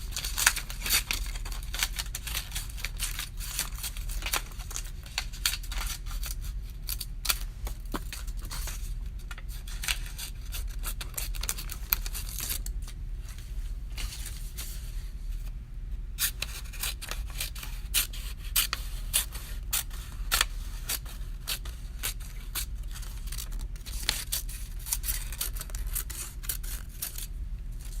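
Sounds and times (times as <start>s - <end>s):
scissors cutting paper: 0.1s - 8.8s, 9.4s - 12.7s, 16.2s - 28.0s.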